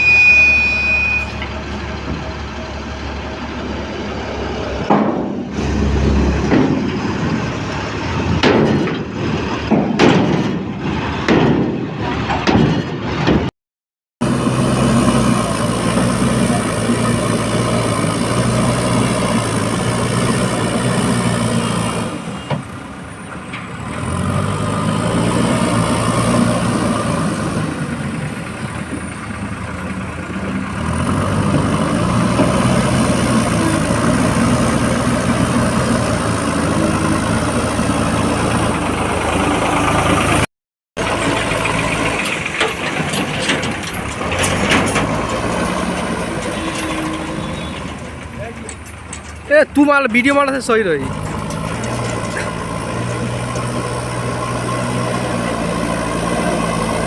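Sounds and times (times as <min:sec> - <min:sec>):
diesel engine under load: 0:00.0 - 0:13.5, 0:14.2 - 0:57.0.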